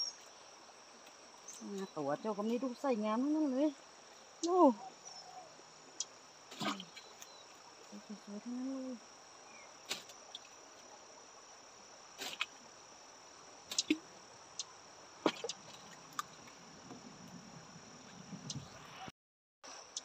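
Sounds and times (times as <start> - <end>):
high-pitched insect drone: 0.0 - 19.1.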